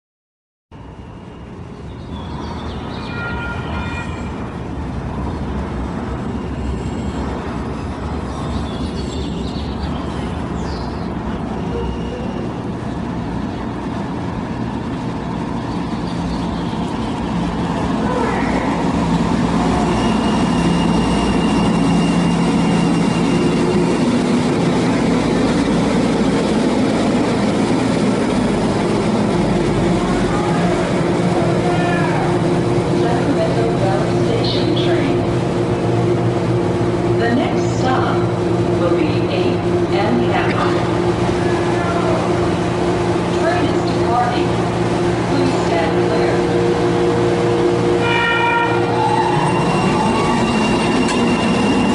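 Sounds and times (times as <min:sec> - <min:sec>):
light rail train rumbling: 0:00.7 - 0:51.9.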